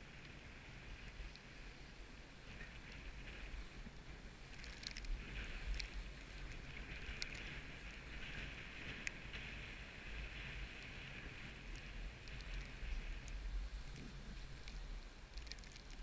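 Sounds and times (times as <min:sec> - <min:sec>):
skis sliding over snow: 0:00.0 - 0:16.0
wind rumbling on microphone: 0:00.0 - 0:16.0.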